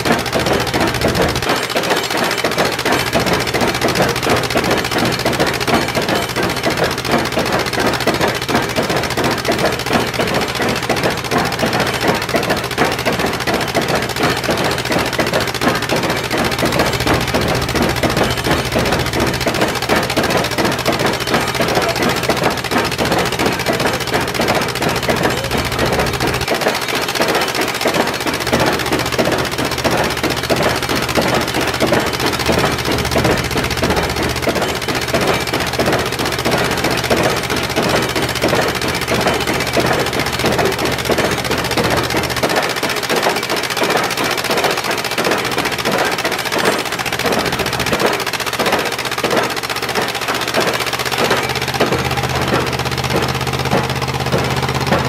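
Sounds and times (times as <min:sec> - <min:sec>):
stamp mill pounding: 0:00.0 - 0:55.0.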